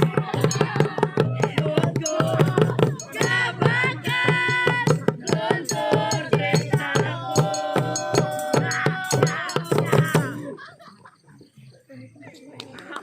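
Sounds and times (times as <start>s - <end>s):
fast group drumming: 0.0s - 10.4s
voices singing: 0.0s - 11.8s.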